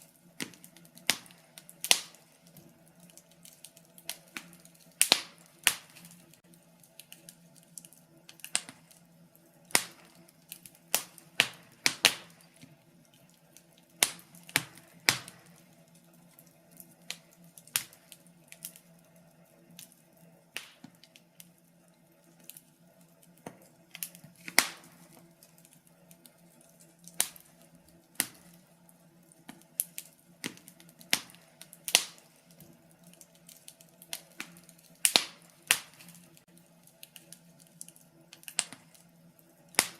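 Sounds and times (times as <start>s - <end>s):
faint steady hum: 0.0s - 39.9s
wood fire crackling and popping: 0.0s - 39.9s.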